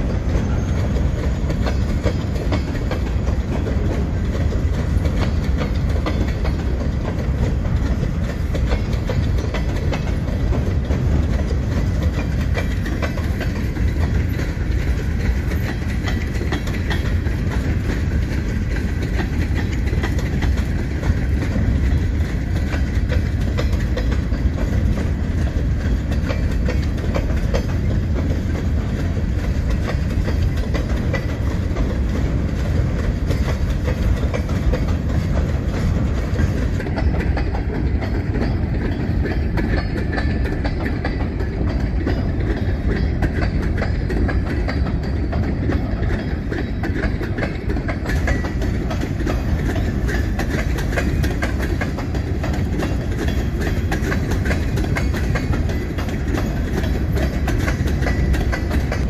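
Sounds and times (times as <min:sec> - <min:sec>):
freight cars rumbling: 0:00.0 - 0:59.0
wheels clicking over rail joints: 0:00.0 - 0:59.0.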